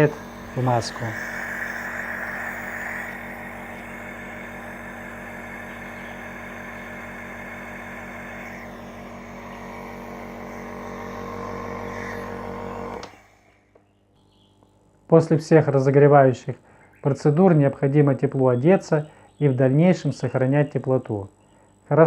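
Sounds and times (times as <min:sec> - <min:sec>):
nebulizer compressor humming: 0:00.0 - 0:22.0.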